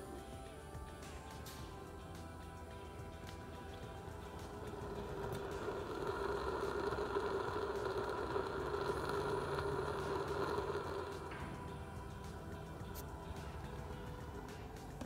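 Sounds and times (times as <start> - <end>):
camping stove burner rushing: 3.0 - 15.0.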